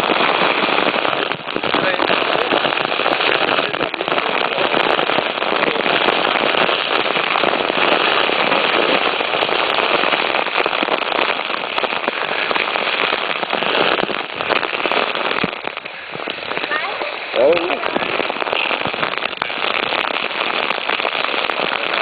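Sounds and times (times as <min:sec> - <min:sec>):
waterfall pouring water: 0:00.0 - 0:22.0.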